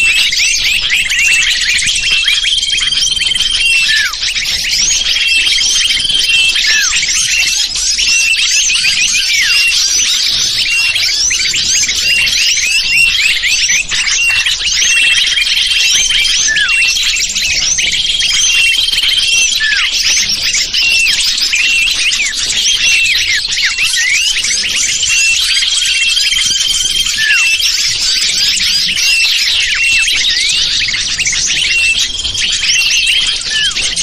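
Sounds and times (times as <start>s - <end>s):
small birds chirping and twittering: 0.0s - 34.0s.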